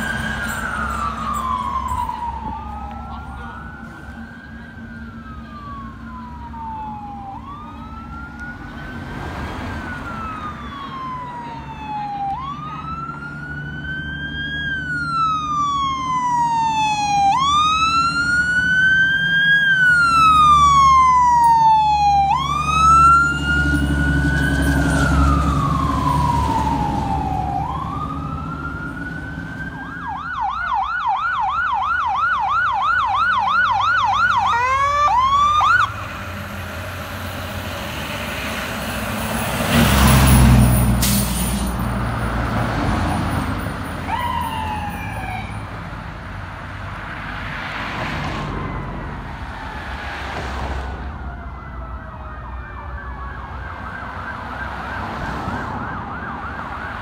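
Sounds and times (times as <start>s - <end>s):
fire truck siren wailing: 0.0s - 57.0s
truck engine rumbling: 0.0s - 57.0s.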